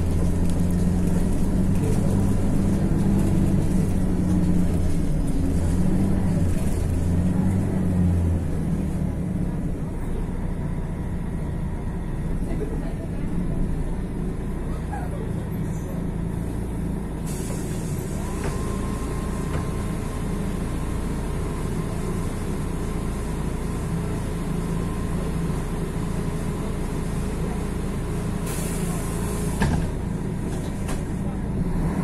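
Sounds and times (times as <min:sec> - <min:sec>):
diesel bus engine running: 0:00.0 - 0:32.0.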